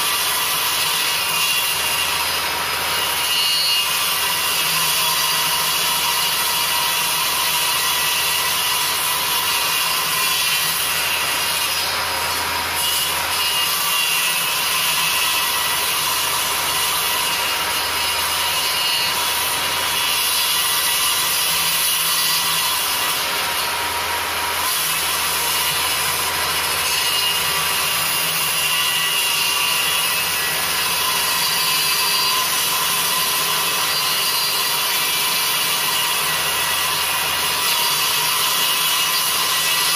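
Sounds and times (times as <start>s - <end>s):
saw motor humming: 0.0s - 39.9s
table saw cutting cork: 0.0s - 39.9s.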